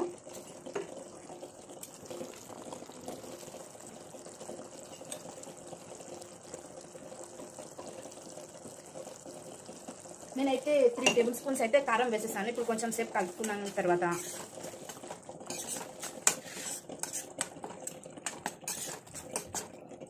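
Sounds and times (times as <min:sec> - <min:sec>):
curry simmering bubbling: 0:00.0 - 0:20.0.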